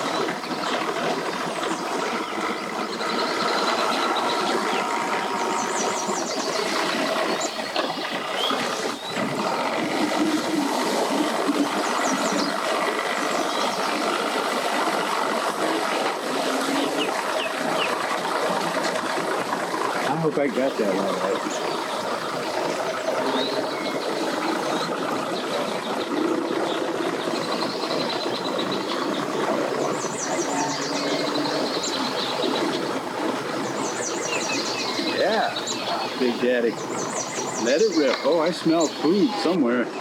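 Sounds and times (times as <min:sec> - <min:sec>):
boat and vehicle engines: 0:00.0 - 0:40.0.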